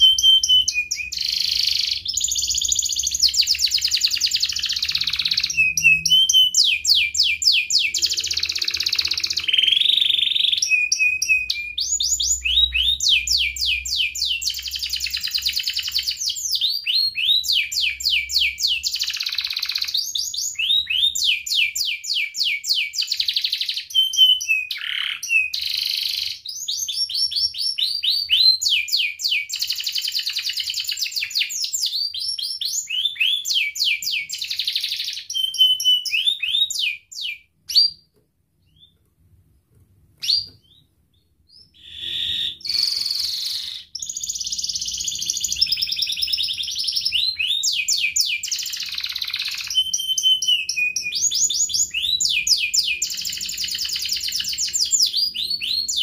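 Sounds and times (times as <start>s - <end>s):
canary singing: 0.0s - 39.1s, 40.2s - 56.0s.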